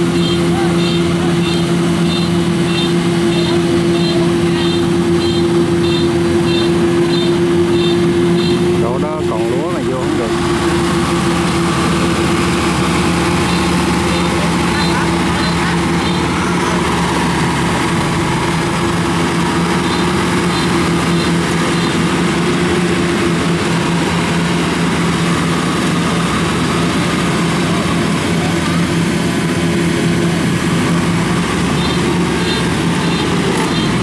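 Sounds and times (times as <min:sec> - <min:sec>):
combine harvester engine running: 0:00.0 - 0:34.0.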